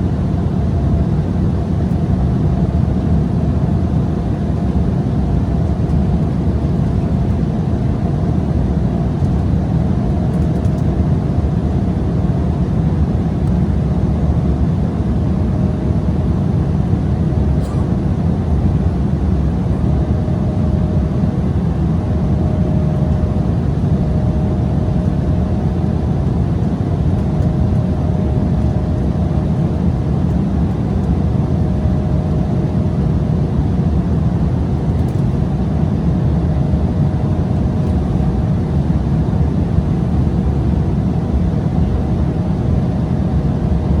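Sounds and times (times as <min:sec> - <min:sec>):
faint hum: 0:00.0 - 0:44.0
jet engines roaring in cabin: 0:00.0 - 0:44.0.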